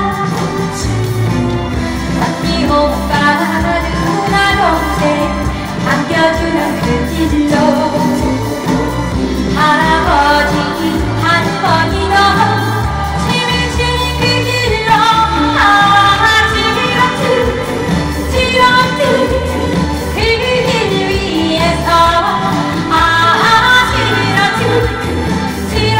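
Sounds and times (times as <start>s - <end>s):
up-tempo backing music: 0.0s - 25.9s
woman singing into microphone: 0.0s - 25.9s.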